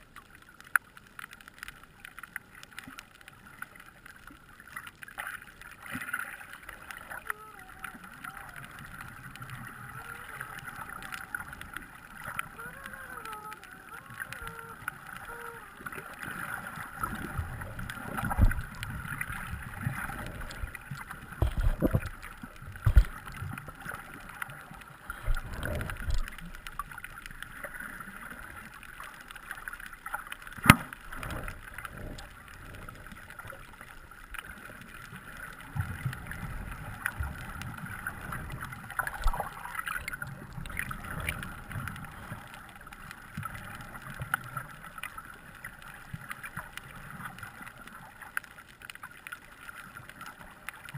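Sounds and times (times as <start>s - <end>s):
underwater water rumbling: 0.0s - 50.9s.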